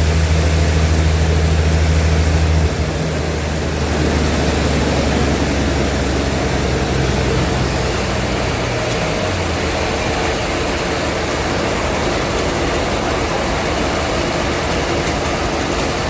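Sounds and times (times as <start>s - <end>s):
low engine hum: 0.0s - 16.0s
sawmill machinery running: 0.0s - 16.0s.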